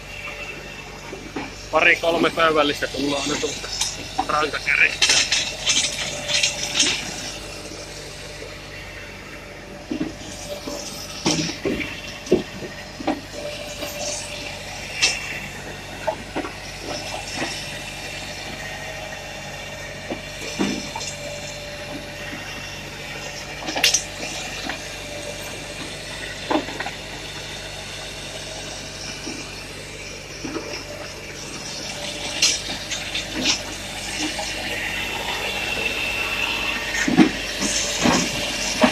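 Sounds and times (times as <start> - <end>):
firewood processor humming and hissing: 0.0 - 38.9.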